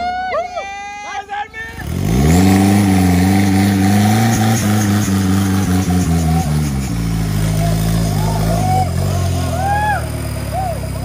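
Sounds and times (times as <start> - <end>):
vehicle engine revving hard: 1.7 - 11.0.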